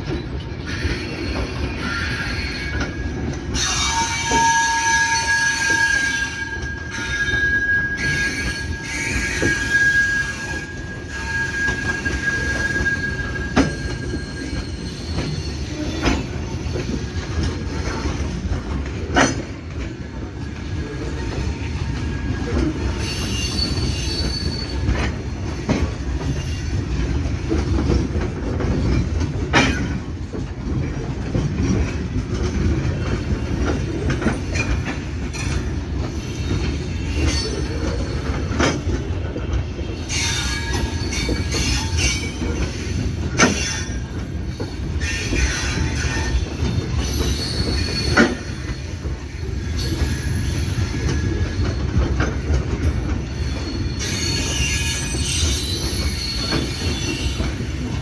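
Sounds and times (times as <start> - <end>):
train wheels rumbling on rail: 0.0 - 58.0
high metallic wheel squeals: 0.1 - 18.4, 21.2 - 27.6, 33.9 - 38.9, 39.8 - 58.0.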